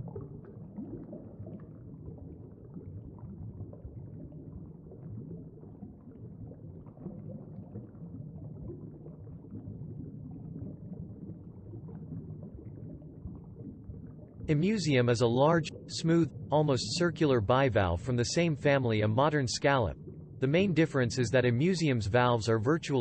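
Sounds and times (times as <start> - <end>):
faint bubbling and crackling: 0.0 - 23.0
underwater low rumble: 0.0 - 23.0.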